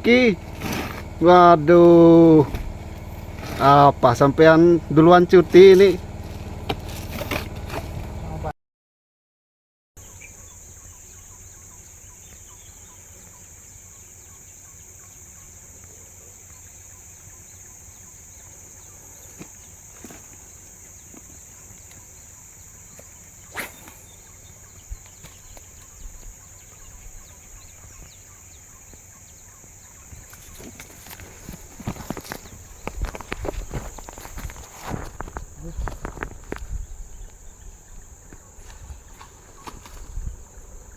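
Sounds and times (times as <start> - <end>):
insect drone: 0.0 - 8.5, 10.0 - 40.9
low steady rumble: 0.0 - 8.5, 16.5 - 40.9.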